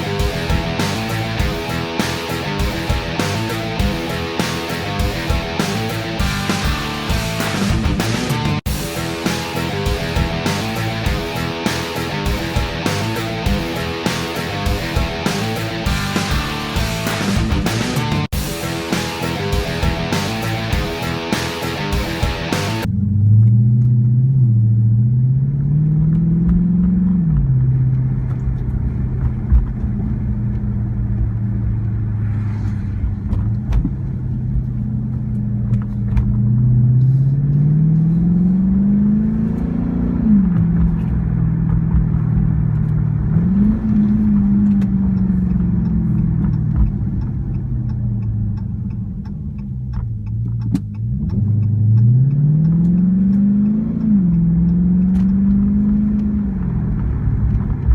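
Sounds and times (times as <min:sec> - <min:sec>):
car exhaust accelerating through gears: 0:00.0 - 0:57.9.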